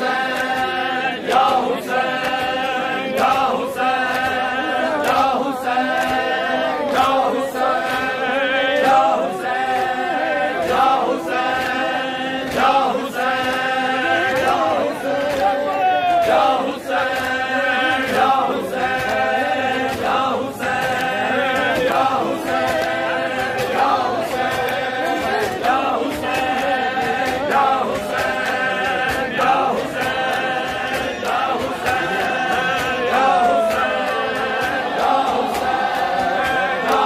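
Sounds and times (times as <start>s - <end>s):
hands slapping on chests: 0.0s - 37.0s
men chanting together: 0.0s - 37.0s.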